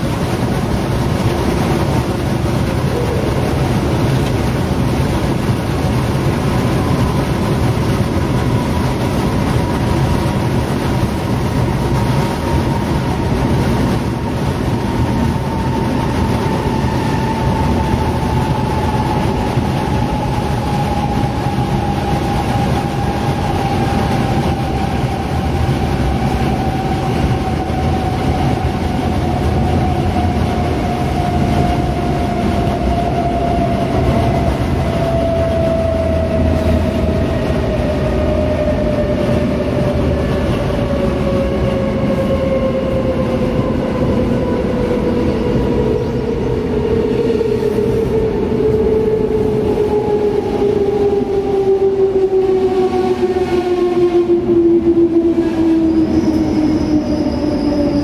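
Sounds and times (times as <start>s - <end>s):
low rumble of wheels on rails: 0.0s - 58.0s.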